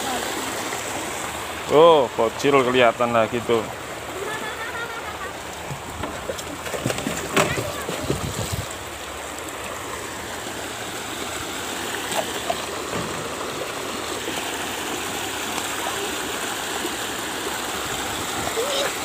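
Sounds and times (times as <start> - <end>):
river running over rocks: 0.0 - 19.0.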